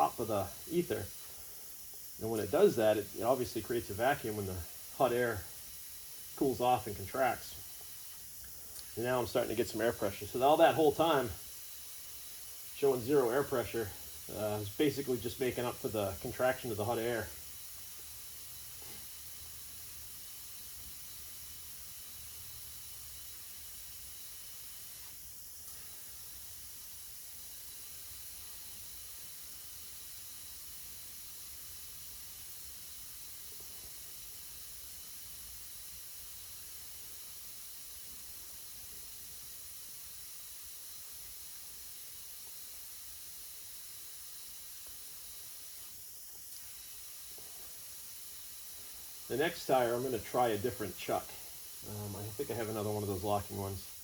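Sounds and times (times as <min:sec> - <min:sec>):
compressed air hissing into tire: 0:00.0 - 0:54.0.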